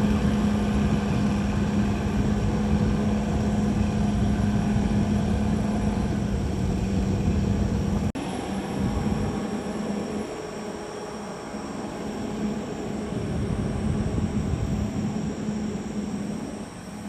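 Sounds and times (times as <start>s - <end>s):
bulldozer diesel engine drone: 0.0s - 17.0s.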